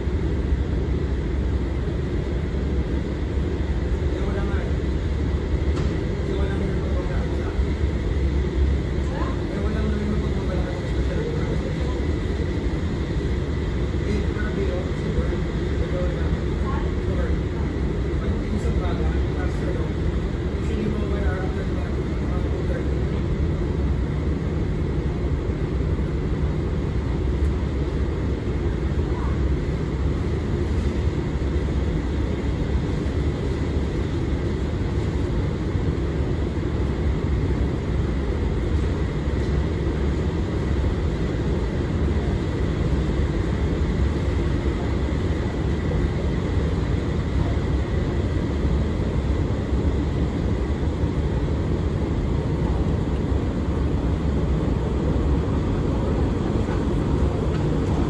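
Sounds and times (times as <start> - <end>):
escalator rumble: 0.0 - 58.0
high whine: 0.0 - 58.0.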